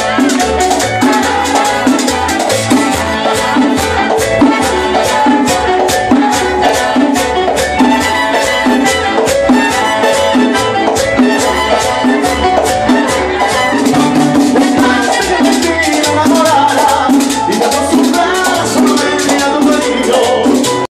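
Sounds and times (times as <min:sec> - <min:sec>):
upbeat latin dance music: 0:00.0 - 0:20.9.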